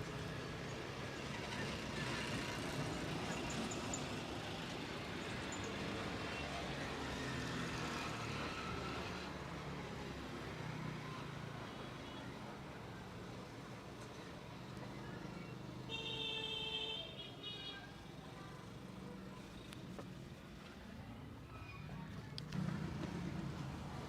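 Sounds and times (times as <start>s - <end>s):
passing vehicles: 0.0s - 24.0s.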